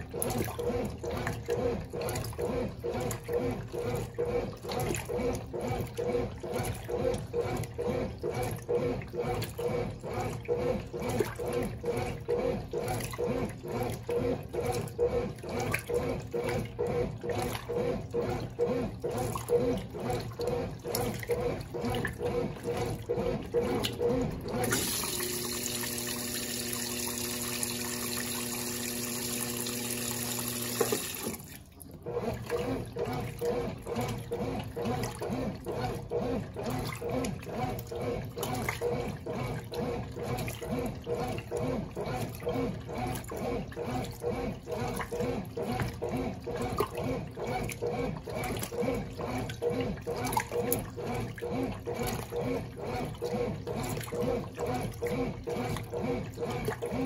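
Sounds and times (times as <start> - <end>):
washing machine sloshing: 0.0 - 57.0.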